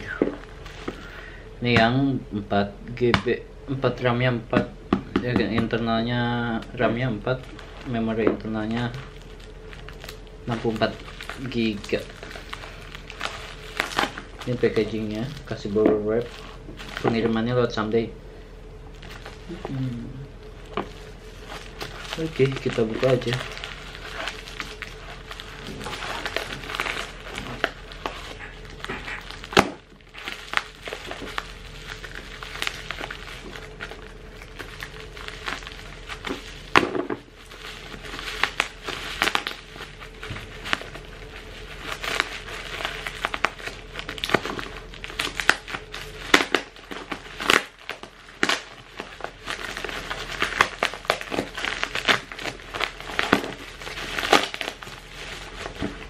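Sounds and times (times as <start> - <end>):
bubble wrap and tape crinkling: 0.0 - 56.0.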